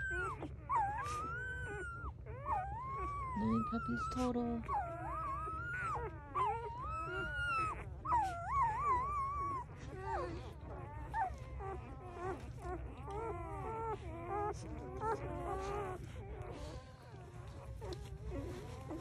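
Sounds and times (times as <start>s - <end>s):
puppies whining and squeaking: 0.0s - 19.0s.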